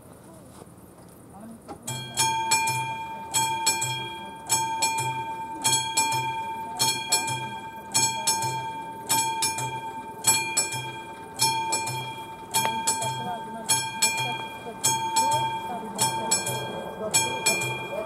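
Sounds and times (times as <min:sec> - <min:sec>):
level crossing warning bell: 0:01.8 - 0:18.0.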